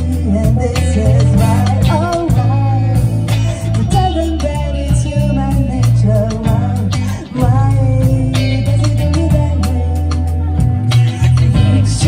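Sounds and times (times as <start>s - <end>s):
bass line: 0.0s - 12.0s
drum kit: 0.0s - 12.0s
electric guitars: 0.0s - 12.0s
person singing: 0.0s - 12.0s.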